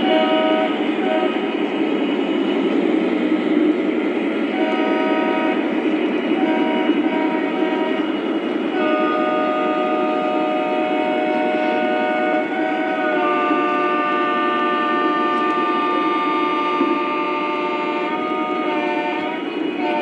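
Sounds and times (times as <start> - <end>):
locomotive horn blasts: 0.0 - 1.4, 4.5 - 20.0
model train rumbling on track: 0.0 - 20.0.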